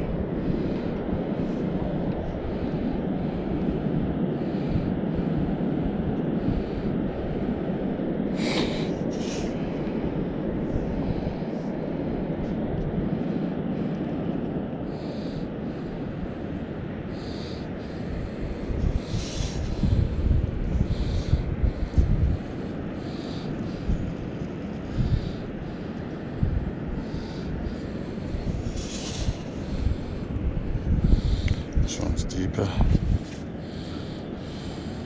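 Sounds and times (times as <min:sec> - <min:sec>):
wind noise on microphone: 0:00.0 - 0:35.0.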